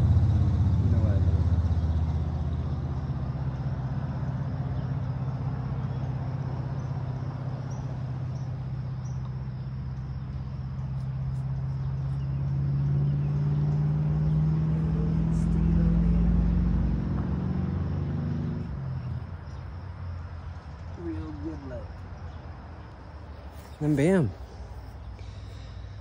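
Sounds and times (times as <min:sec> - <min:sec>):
engine-like hum: 0:00.0 - 0:26.0.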